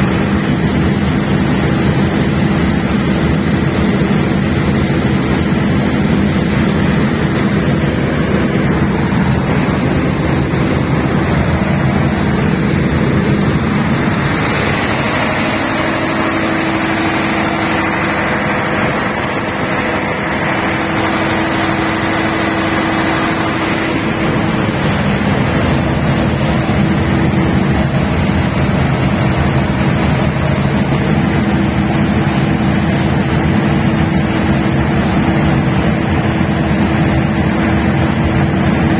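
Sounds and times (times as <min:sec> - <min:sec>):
diesel generator droning: 0:00.0 - 0:38.9
steady high whine: 0:00.0 - 0:38.9.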